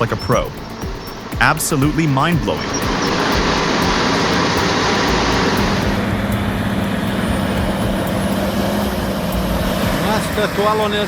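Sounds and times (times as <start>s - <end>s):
diesel engine droning: 0.0s - 11.0s
loud hiss: 0.0s - 11.0s.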